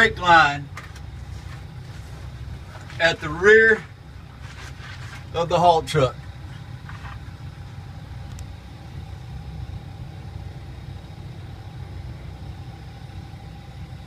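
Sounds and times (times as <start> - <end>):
diesel engine idling: 0.0 - 14.0
faint steady hum: 0.0 - 14.0.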